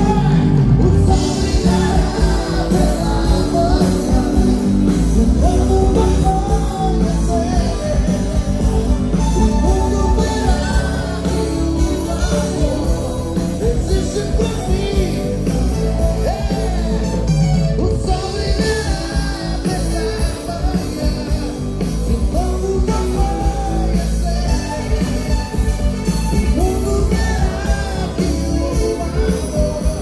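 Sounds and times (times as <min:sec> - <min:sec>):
drums: 0:00.0 - 0:30.0
electric guitar: 0:00.0 - 0:30.0
man singing: 0:00.0 - 0:30.0.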